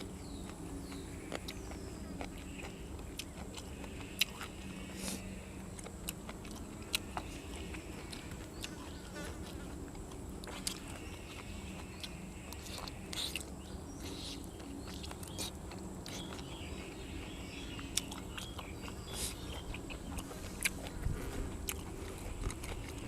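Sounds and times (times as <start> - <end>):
person chewing food: 0.0 - 23.0
sharp eating clicks: 0.0 - 23.0.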